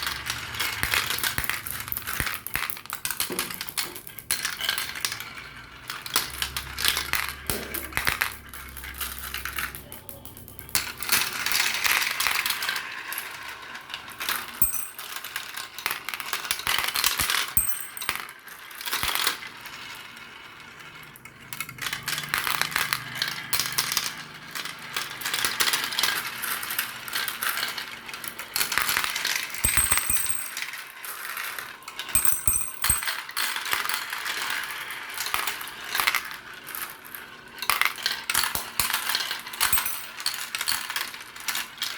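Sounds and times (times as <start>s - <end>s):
marbles rolling and clattering on track: 0.0s - 41.9s.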